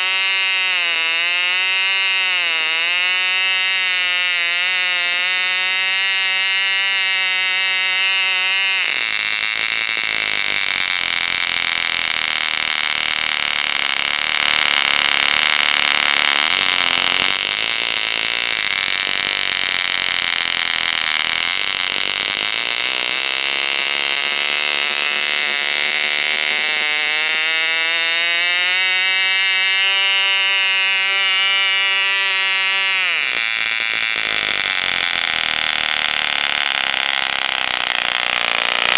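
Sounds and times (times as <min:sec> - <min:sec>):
model glow engine running: 0:00.0 - 0:38.9.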